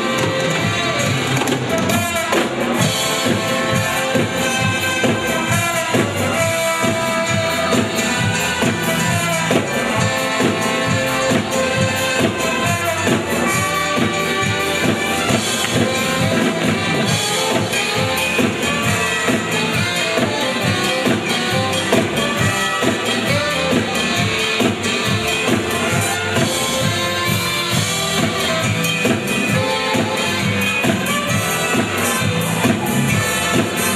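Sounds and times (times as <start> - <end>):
upbeat music with drums: 0.0 - 33.9.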